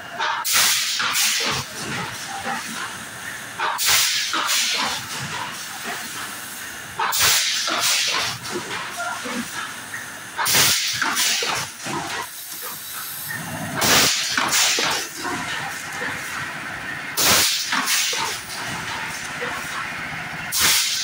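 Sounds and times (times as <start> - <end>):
steady machine noise: 0.0 - 21.0
bursts of hissing air: 0.4 - 21.0.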